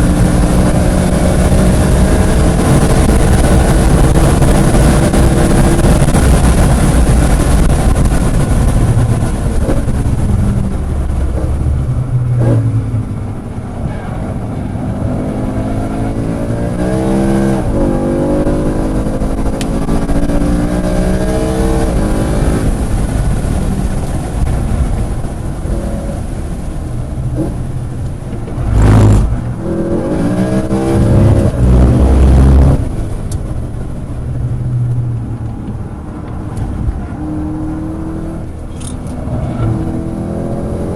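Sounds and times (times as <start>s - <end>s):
sports car engine accelerating: 0.0s - 40.9s.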